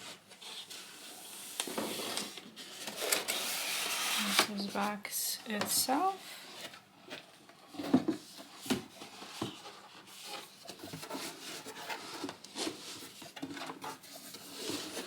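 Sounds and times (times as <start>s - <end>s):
cardboard rubbing and rustling: 0.0s - 4.9s, 6.1s - 15.0s.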